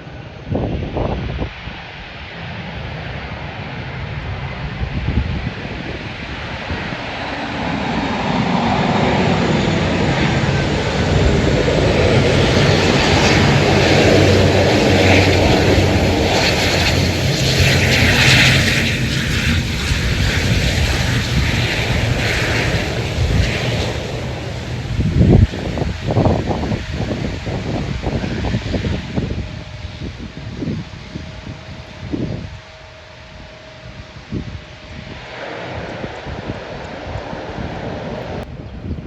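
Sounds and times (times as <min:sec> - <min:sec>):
airliner engines passing: 0:00.0 - 0:39.0.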